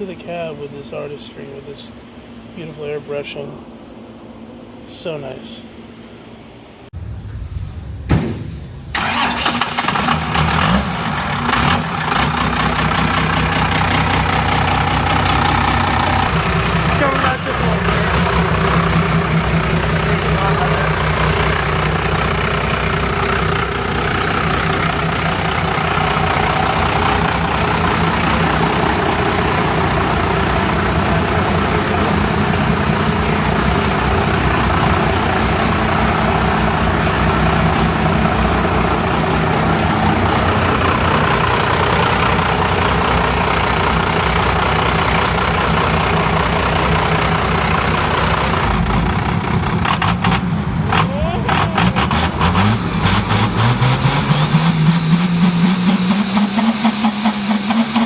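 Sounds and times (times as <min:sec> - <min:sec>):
vehicle engine running: 0:05.9 - 0:58.0.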